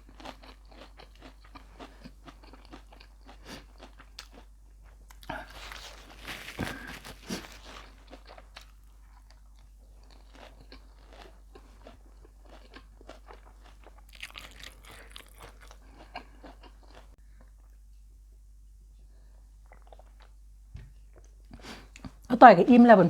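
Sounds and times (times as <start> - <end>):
person chewing and crunching food: 0.0 - 18.1, 18.9 - 22.3.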